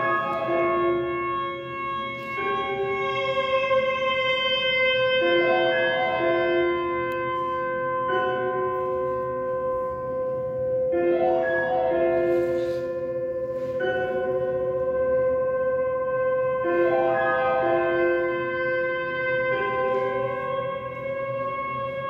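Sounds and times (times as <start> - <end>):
slow ambient music: 0.0 - 22.0.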